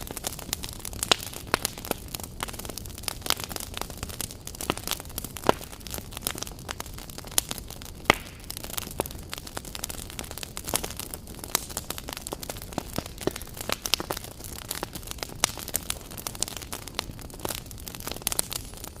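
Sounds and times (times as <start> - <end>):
campfire crackling: 0.0 - 19.0
low hiss: 0.0 - 19.0.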